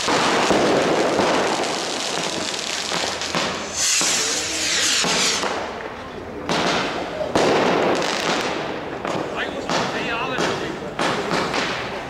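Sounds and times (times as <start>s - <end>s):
firecrackers banging and crackling: 0.0s - 12.0s
rockets bursting: 0.0s - 12.0s.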